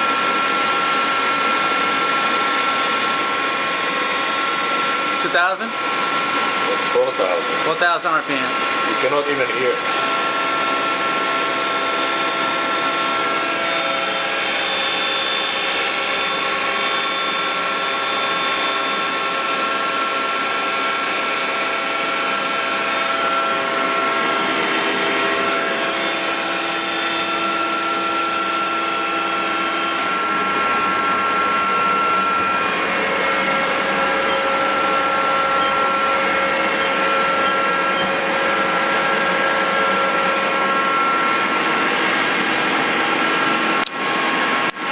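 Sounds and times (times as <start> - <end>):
lathe machine whine: 0.0 - 44.9.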